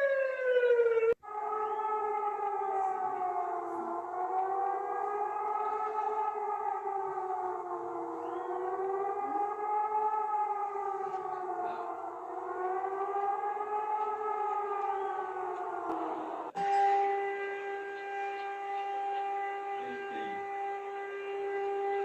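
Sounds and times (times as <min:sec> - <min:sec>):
warning siren wailing: 0:00.0 - 0:22.0.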